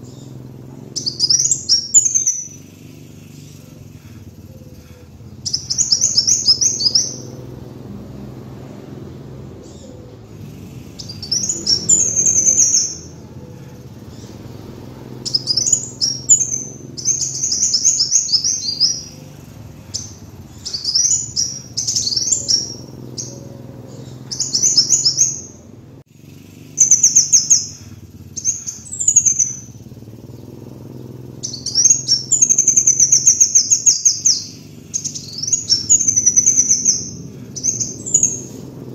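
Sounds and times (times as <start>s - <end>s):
sunbird twittering chirps: 0.0s - 38.9s.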